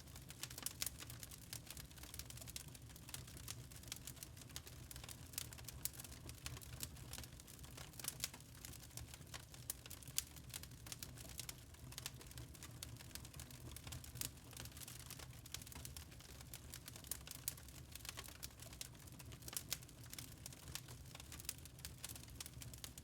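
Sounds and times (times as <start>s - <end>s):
logs crackling and popping: 0.1s - 23.0s.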